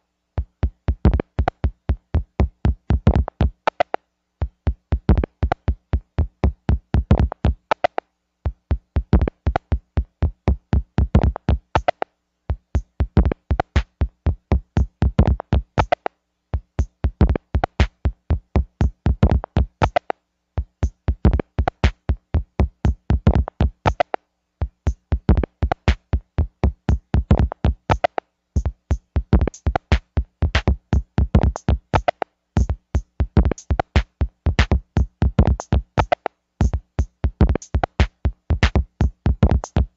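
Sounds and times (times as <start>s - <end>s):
electronic music beat: 0.4s - 39.9s.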